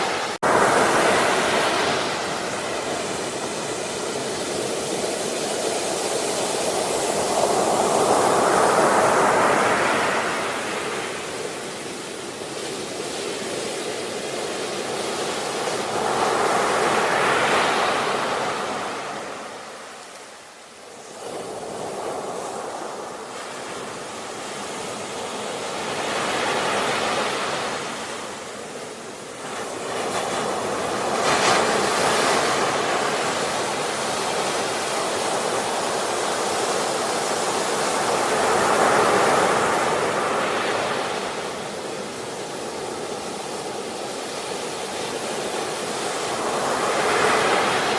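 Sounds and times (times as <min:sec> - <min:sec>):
ocean waves breaking: 0:00.0 - 0:47.9.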